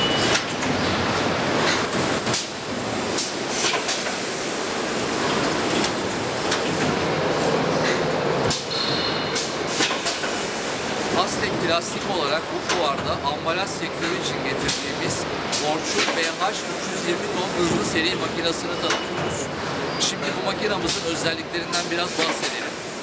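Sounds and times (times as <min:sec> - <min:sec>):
injection moulding machines running: 0:00.0 - 0:23.0.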